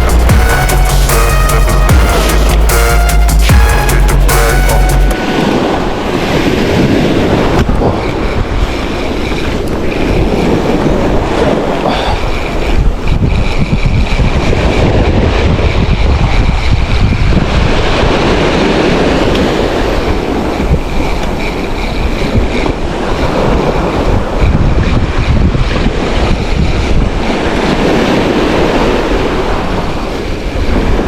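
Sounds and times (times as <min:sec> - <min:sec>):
wind buffeting microphone: 0:00.0 - 0:31.0
surf washing on beach: 0:05.1 - 0:31.0.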